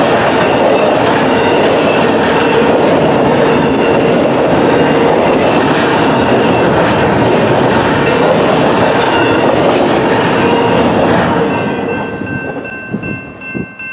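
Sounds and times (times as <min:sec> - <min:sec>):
freight train rolling past: 0:00.0 - 0:13.9.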